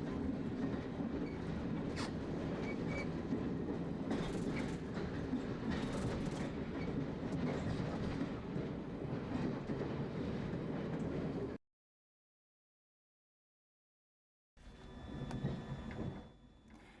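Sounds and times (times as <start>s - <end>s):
train rumbling: 0.0s - 11.6s, 14.6s - 17.0s.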